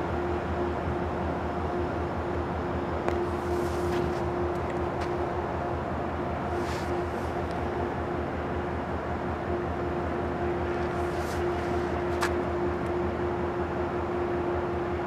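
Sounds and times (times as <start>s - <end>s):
diesel train engine humming: 0.0s - 15.0s.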